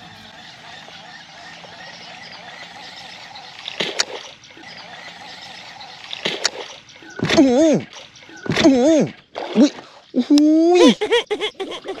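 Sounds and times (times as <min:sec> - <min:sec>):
water splashing and rippling: 0:00.2 - 0:11.0.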